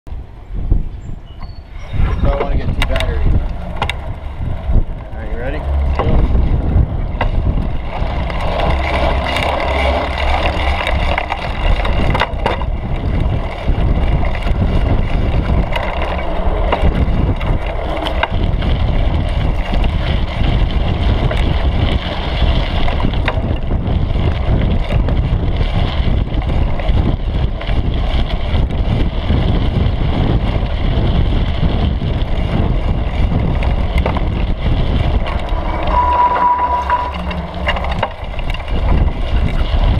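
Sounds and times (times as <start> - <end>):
wind buffeting microphone: 0.1 - 39.9
bike rattling and knocking: 2.1 - 35.7, 37.7 - 39.9.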